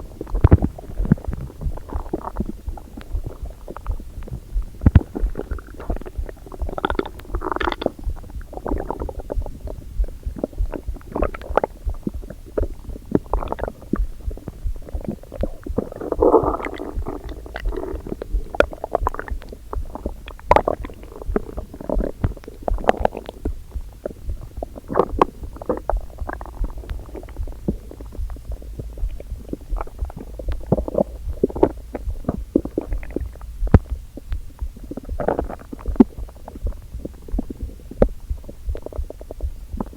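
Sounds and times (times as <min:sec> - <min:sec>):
stomach rumbling and gurgling: 0:00.0 - 0:39.9.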